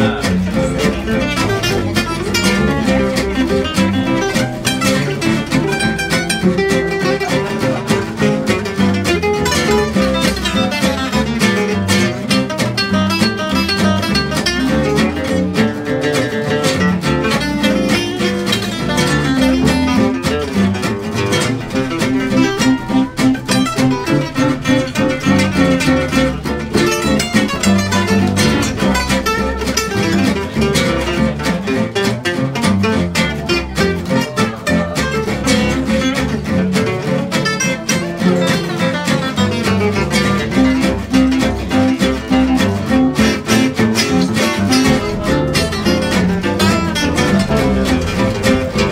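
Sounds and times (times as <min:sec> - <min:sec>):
acoustic jazz band playing swing: 0:00.0 - 0:48.9.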